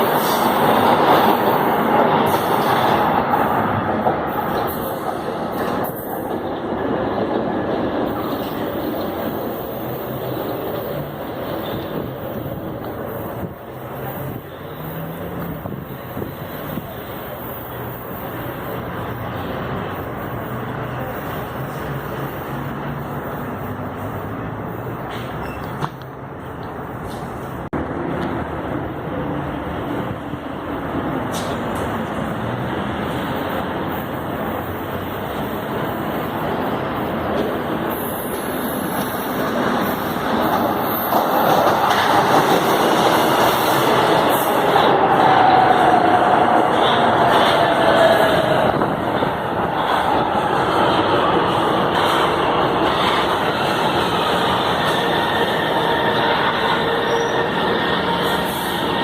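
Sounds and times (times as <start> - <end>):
metro train rumble: 0.0 - 59.0.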